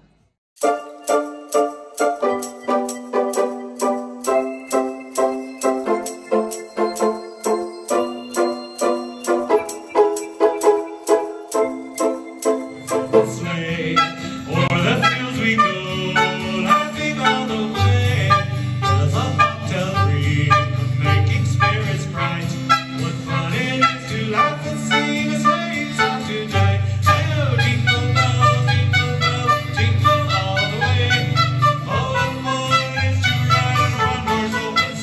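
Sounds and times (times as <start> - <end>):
country-style guitar playing: 0.6 - 35.0.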